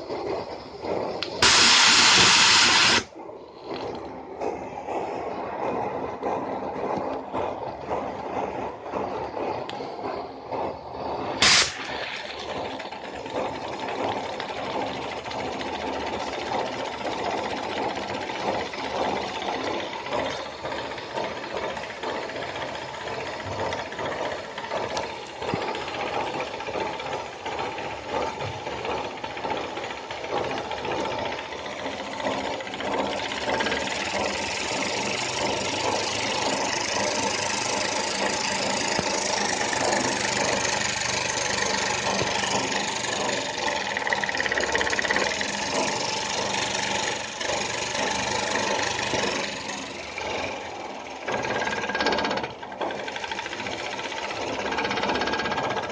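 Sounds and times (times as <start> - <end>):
steam engine clattering: 0.0 - 55.9.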